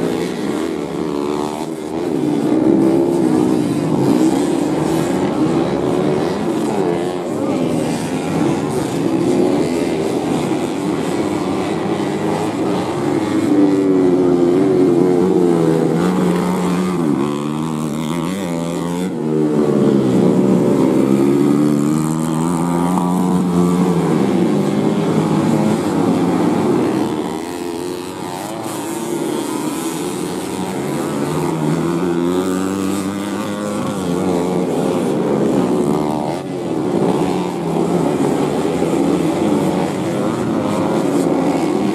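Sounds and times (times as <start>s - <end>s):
motorcycle engines revving: 0.0s - 41.9s.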